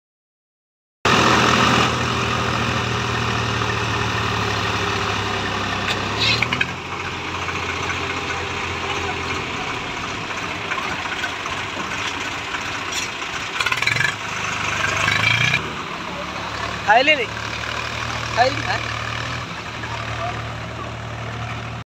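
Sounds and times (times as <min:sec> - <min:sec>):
tractor diesel engine running: 0:01.1 - 0:21.8.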